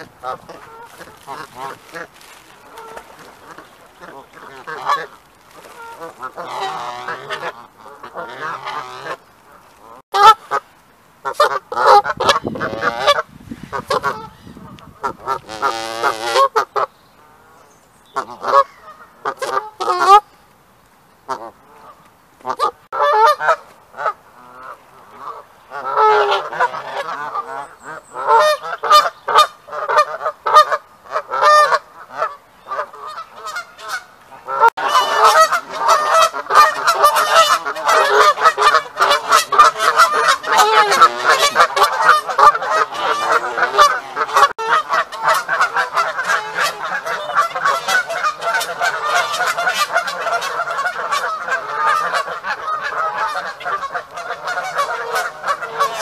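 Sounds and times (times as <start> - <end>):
geese honking: 0.0 - 10.6, 11.2 - 20.2, 21.3 - 56.0.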